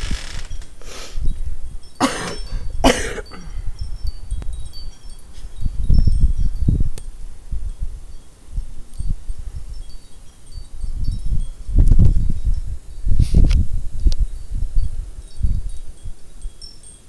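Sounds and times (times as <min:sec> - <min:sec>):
wind buffeting microphone: 0:00.0 - 0:17.0
wind chimes tinkling: 0:00.5 - 0:13.2, 0:13.9 - 0:17.0.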